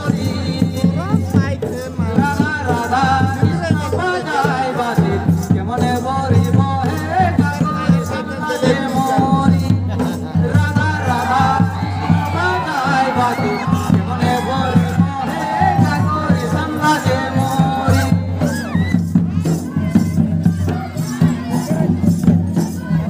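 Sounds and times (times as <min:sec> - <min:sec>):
dense drum beats: 0:00.0 - 0:23.0.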